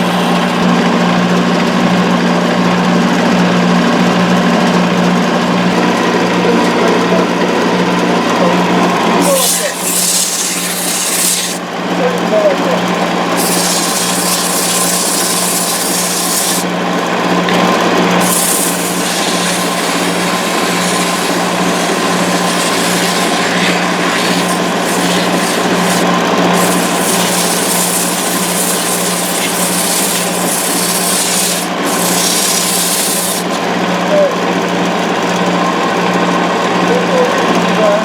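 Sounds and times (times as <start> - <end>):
tool cutting spinning wood: 0.0 - 35.8
lathe motor hum: 0.0 - 38.0.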